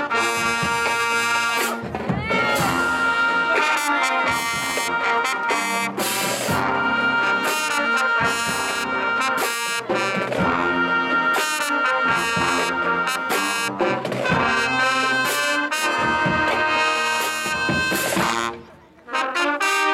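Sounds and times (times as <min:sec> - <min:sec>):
percussion hits: 0:00.0 - 0:18.7
brass horns holding chords: 0:00.0 - 0:19.9.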